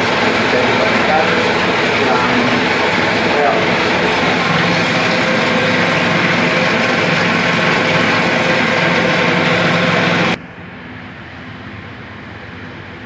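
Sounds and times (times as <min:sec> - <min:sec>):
condensing unit whooshing hum: 0:00.0 - 0:13.0.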